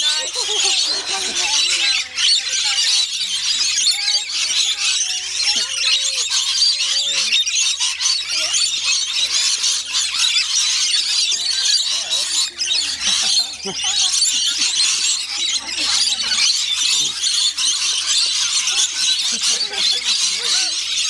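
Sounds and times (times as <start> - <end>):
flock of parrots screeching: 0.0 - 21.0.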